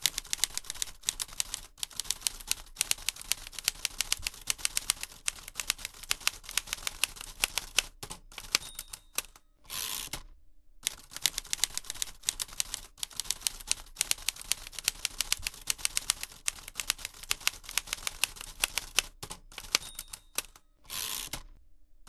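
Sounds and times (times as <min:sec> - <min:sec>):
typewriter keys clacking: 0:00.0 - 0:09.4, 0:10.9 - 0:20.6.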